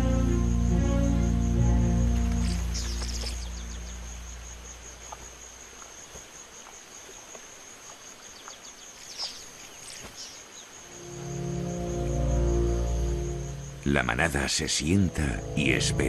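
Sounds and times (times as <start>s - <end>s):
high thin insect drone: 0.0s - 16.0s.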